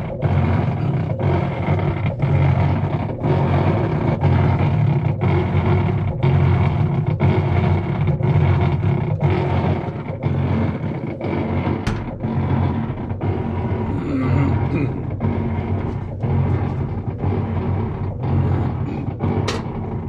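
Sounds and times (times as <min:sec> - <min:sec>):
washer motor droning: 0:00.0 - 0:20.0.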